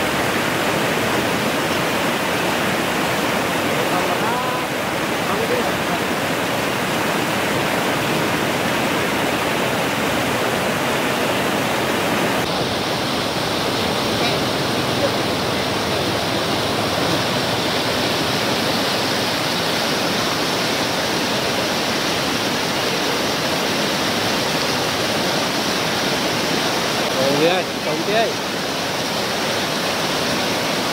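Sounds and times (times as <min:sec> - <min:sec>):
water rushing over spillway: 0:00.0 - 0:30.9.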